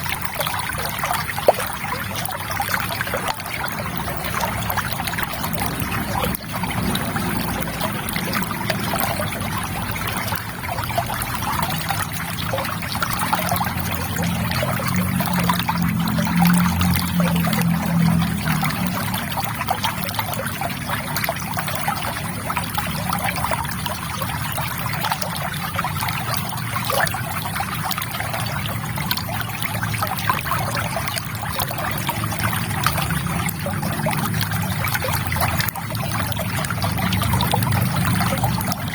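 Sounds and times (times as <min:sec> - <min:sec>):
river water trickling: 0:00.0 - 0:38.9.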